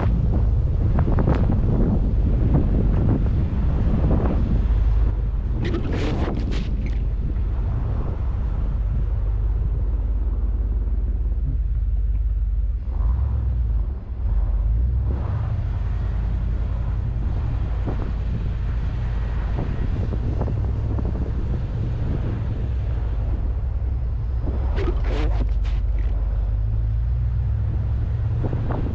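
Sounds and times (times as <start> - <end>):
truck engine rumble inside cab: 0.0 - 28.9.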